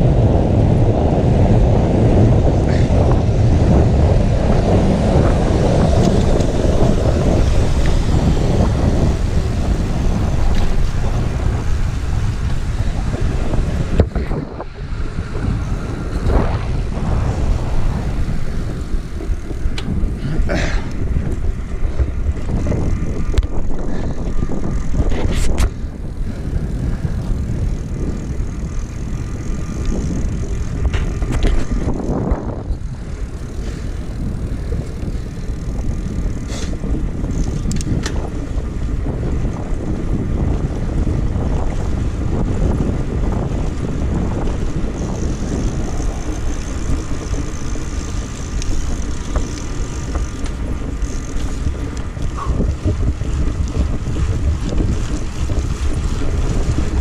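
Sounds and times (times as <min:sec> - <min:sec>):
wind rumbling on microphone: 0:00.0 - 0:57.0.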